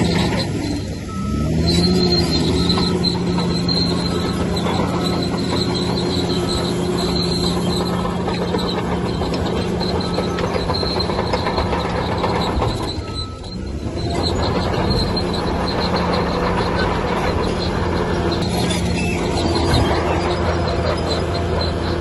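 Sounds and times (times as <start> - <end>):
crawler tracks whining and clattering: 0.0 - 22.0
diesel engine humming: 0.0 - 22.0.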